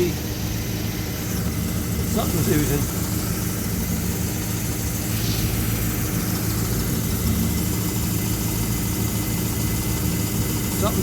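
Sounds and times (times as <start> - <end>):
pickup engine idling: 0.0 - 11.0
power steering pump turning: 0.0 - 11.0.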